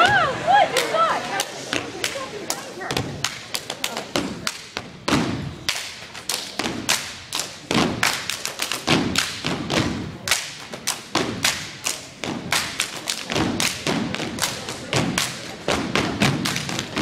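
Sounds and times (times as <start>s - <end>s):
hands clapping: 0.7s - 4.8s, 5.6s - 9.6s, 10.2s - 17.0s.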